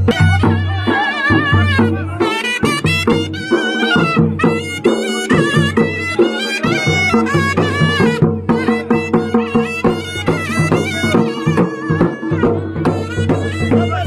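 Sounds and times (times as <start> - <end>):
fast folk dance music: 0.0 - 14.0.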